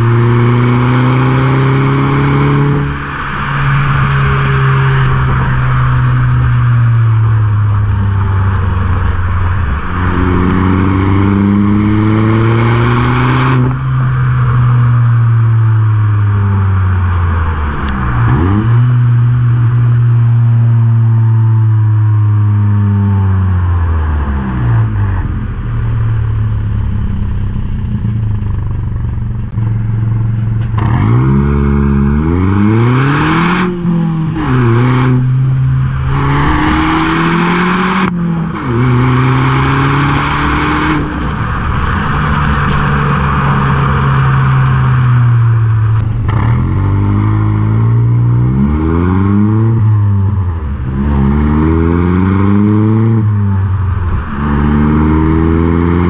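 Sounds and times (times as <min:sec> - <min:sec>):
car exhaust accelerating: 0:00.0 - 0:56.0
wind and road noise: 0:00.0 - 0:56.0.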